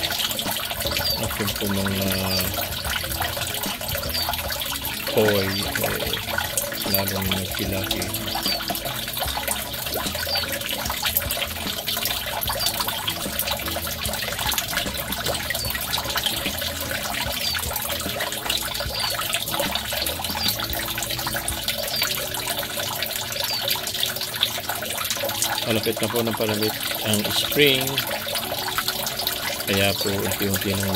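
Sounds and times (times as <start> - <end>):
water running and splashing: 0.0 - 30.9.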